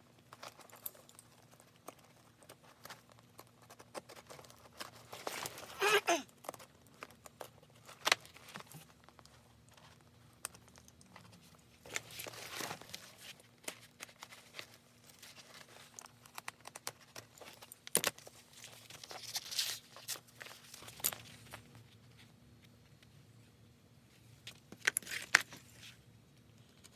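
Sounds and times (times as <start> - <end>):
rustling and scraping: 0.1 - 5.8, 6.4 - 26.9.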